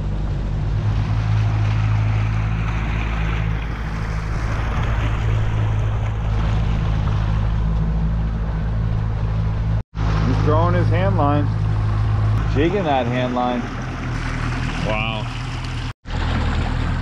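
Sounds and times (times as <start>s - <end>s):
boat engine running: 0.0s - 17.0s
water rushing: 0.0s - 17.0s.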